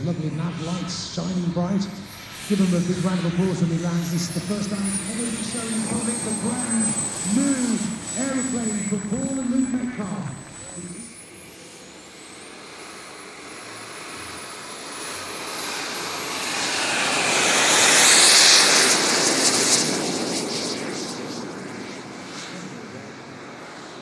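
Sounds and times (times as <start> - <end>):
model jet turbine passing by: 0.0 - 24.0.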